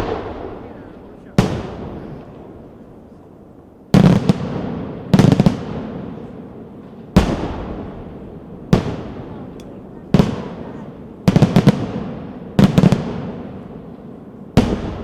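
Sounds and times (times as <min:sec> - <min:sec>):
fireworks bangs with echo: 0:00.0 - 0:15.0.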